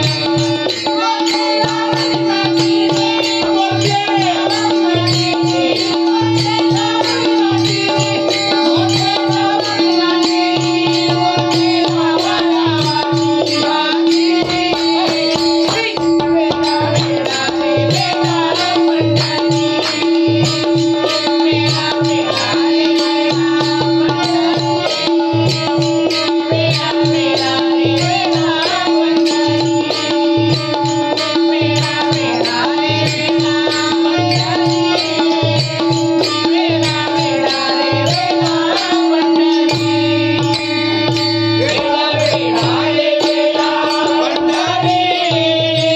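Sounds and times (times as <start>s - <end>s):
person singing: 0.0s - 45.9s.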